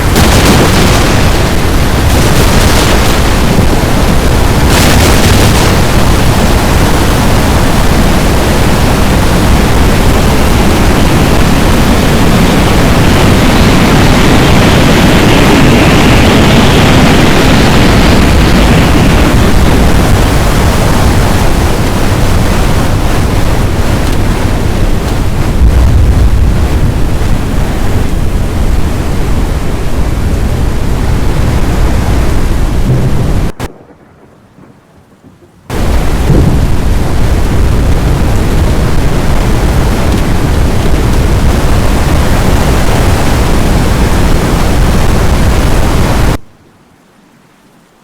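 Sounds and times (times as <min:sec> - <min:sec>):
wind and rain roaring: 0:00.0 - 0:48.0.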